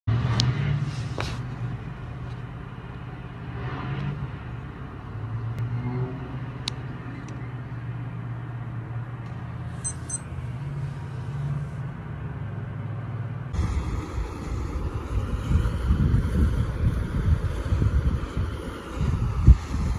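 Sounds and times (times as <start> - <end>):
distant vehicle engines rumbling: 0.1 - 19.9.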